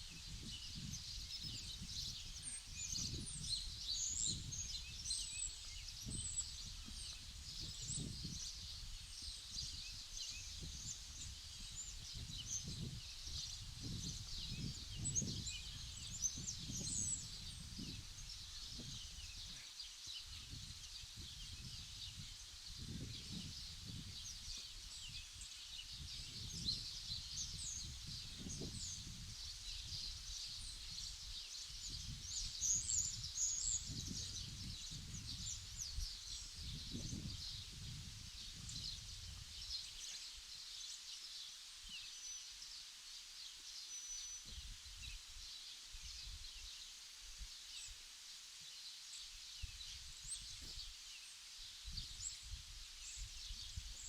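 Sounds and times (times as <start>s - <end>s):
small birds chirping: 0.0s - 48.0s, 48.6s - 54.0s.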